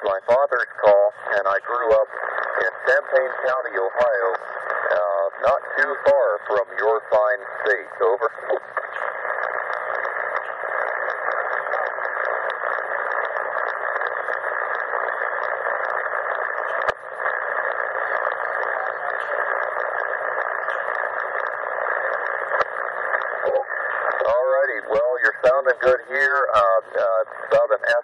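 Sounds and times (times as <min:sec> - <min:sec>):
radio static hiss: 0:00.0 - 0:28.0.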